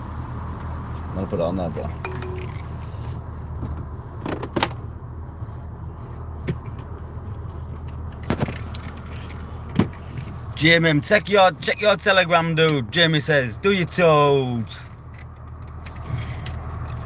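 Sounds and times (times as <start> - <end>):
car cabin rumble while driving: 0.0 - 17.0.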